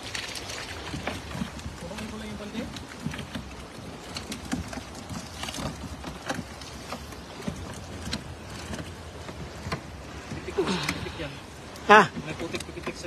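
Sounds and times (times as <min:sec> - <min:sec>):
water splashes and wet slaps: 0:00.0 - 0:13.0.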